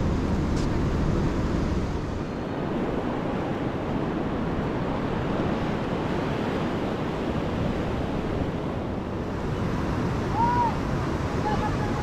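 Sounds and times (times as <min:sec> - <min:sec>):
wind rumbling on microphone: 0:00.0 - 0:12.0
ocean surf washing up beach: 0:02.0 - 0:12.0.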